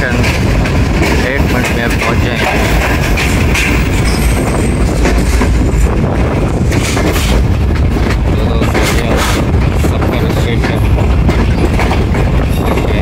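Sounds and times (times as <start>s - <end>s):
train rumbling: 0.0s - 13.0s
wheels clacking over rail joints: 0.0s - 13.0s.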